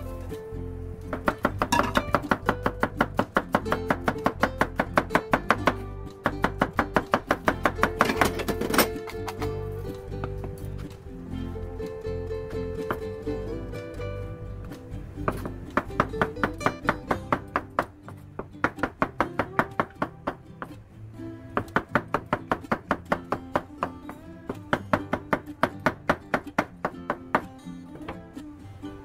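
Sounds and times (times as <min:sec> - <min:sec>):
plucked acoustic guitar: 0:00.0 - 0:29.0.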